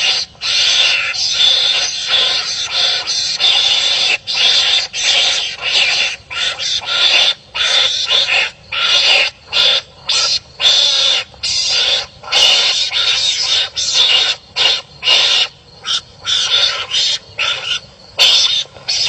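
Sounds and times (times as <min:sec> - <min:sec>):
animals rasping calls: 0:00.0 - 0:19.0.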